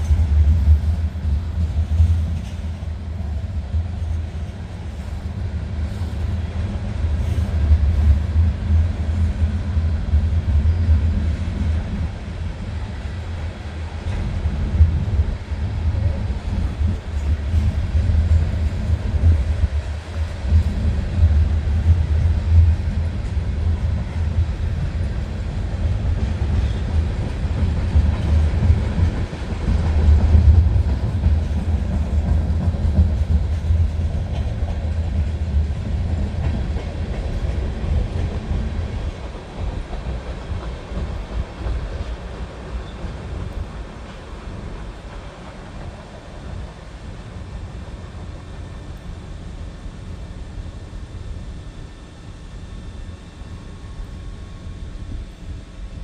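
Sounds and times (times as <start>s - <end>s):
freight train cars rumbling past: 0.0s - 56.0s.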